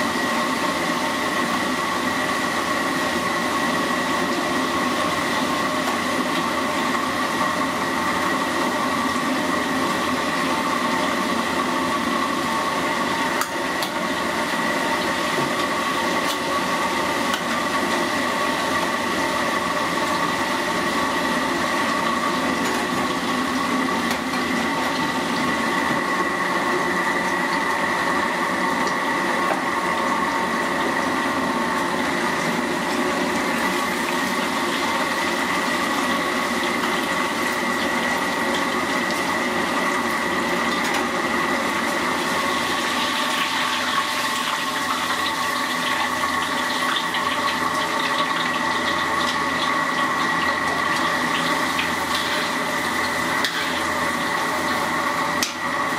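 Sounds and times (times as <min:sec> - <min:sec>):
gas burner roar: 0:00.0 - 0:55.9
sizzling and bubbling oil: 0:00.0 - 0:55.9.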